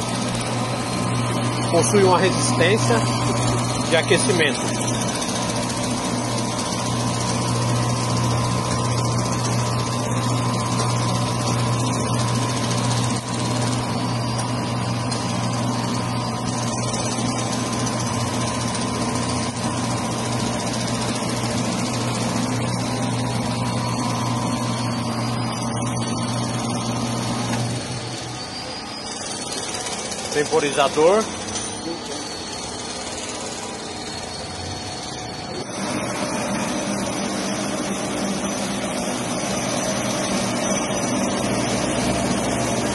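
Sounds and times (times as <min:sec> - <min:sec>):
pump motor humming: 0:00.0 - 0:42.9.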